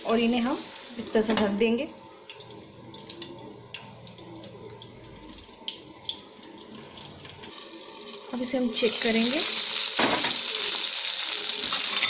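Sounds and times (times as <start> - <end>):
quiet oil sizzle: 0.0 - 12.0.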